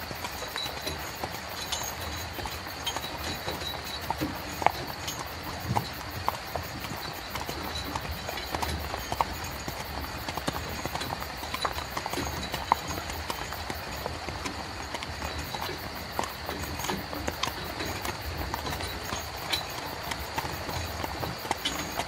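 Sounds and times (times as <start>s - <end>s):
horse hooves clip-clopping: 0.0s - 22.0s.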